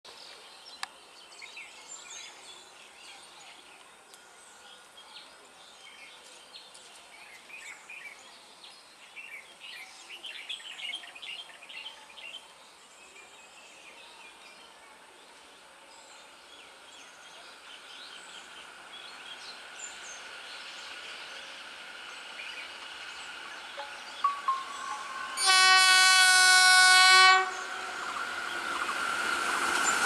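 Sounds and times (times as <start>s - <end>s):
faint outdoor noise: 0.1s - 30.0s.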